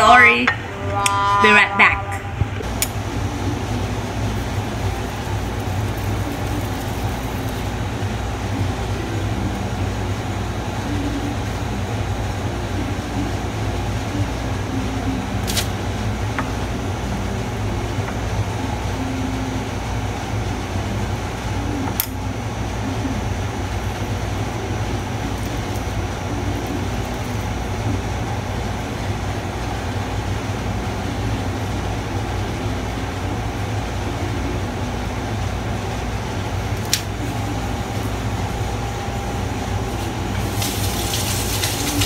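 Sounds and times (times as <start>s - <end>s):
low mechanical hum: 0.0s - 42.0s
noise haze: 0.0s - 42.0s.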